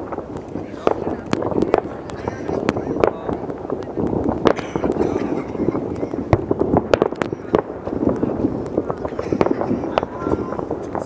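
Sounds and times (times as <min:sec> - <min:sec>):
distant firework blasts: 0:00.0 - 0:11.0
firework bangs and pops: 0:00.0 - 0:11.0.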